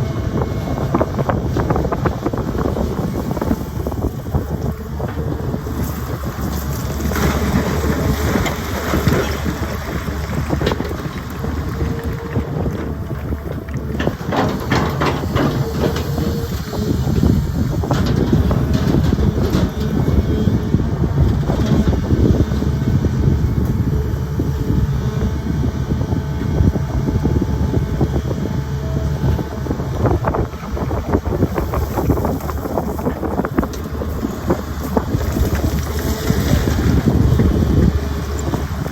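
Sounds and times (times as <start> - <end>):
excavator bucket clanking and scraping: 0.0 - 38.9
excavator diesel engine running: 0.0 - 38.9.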